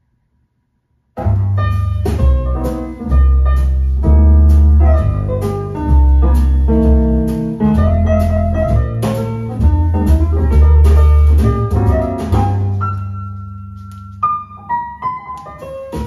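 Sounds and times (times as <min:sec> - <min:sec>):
piano-like notes: 0:01.2 - 0:16.0.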